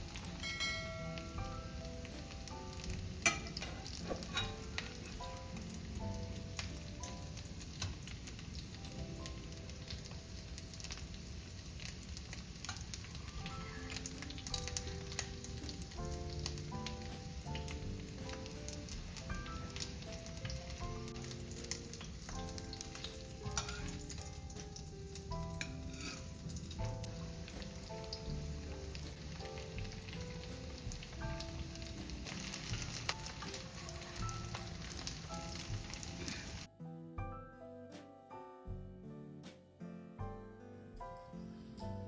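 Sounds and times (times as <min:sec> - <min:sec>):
food sizzling in hot oil: 0:00.0 - 0:36.7
soft melodic background music: 0:00.0 - 0:42.0.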